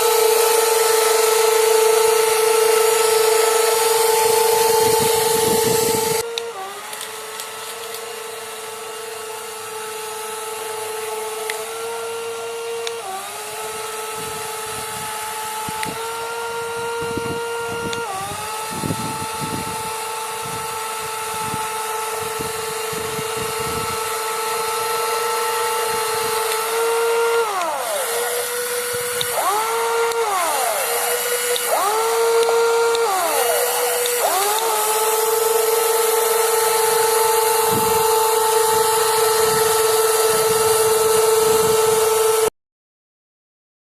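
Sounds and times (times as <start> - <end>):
electric motors whining: 0.0 - 42.5.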